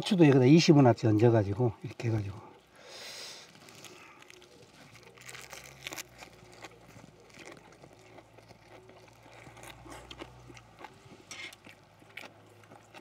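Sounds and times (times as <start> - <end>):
people chewing: 1.2 - 13.0.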